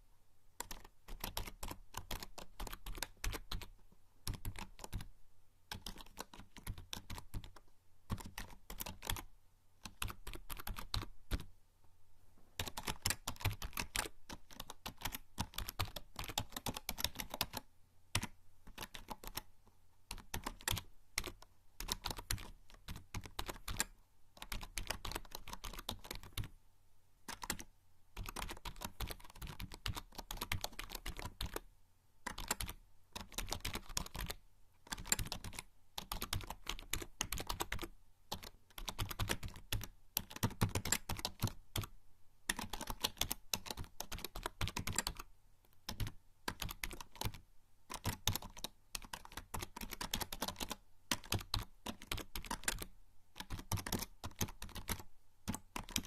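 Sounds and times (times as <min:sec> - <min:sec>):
typing on membrane keyboard: 0:00.6 - 0:05.1, 0:05.7 - 0:11.5, 0:12.6 - 0:19.5, 0:20.1 - 0:26.5, 0:27.3 - 0:31.6, 0:32.3 - 0:41.9, 0:42.5 - 0:56.0.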